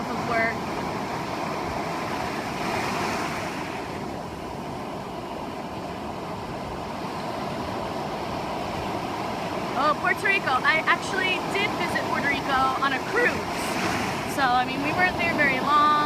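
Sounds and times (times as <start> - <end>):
ocean surf washing onto beach: 0.0 - 16.0
wind on microphone: 0.0 - 16.0.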